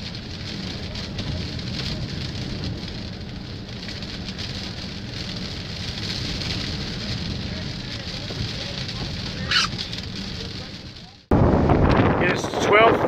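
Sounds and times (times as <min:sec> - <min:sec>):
driving rain: 0:00.0 - 0:13.0
hurricane wind: 0:00.0 - 0:13.0.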